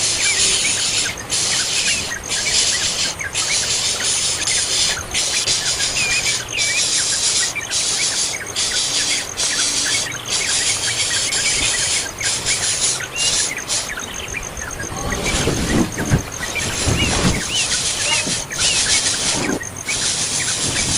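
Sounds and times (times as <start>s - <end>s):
birds chirping: 0.0s - 20.9s
high hissing buzz: 0.0s - 20.9s.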